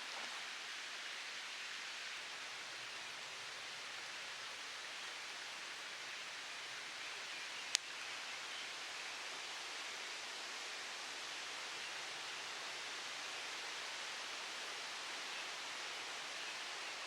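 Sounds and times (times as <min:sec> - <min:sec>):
campfire hissing: 0:00.0 - 0:17.0.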